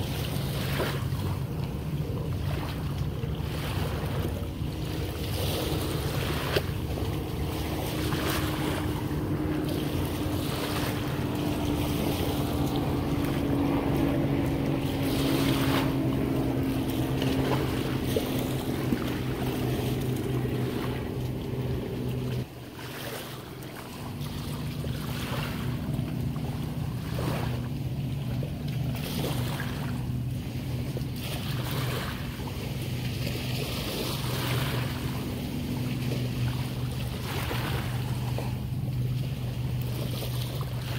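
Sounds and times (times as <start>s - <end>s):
motorboat engine hum: 0.0s - 40.9s.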